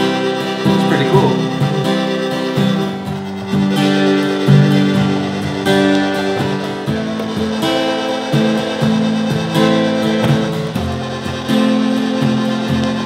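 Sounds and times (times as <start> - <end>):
acoustic guitar: 0.0 - 13.0
electronic synthesizer notes: 0.0 - 13.0.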